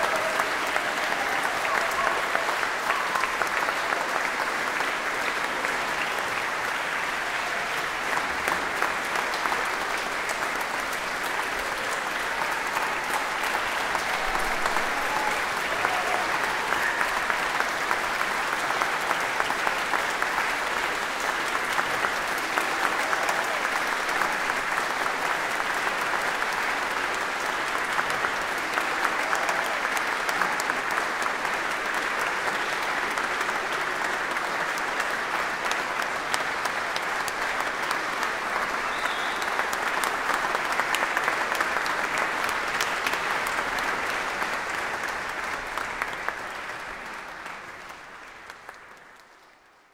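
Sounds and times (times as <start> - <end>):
audience applauding: 0.0 - 49.9.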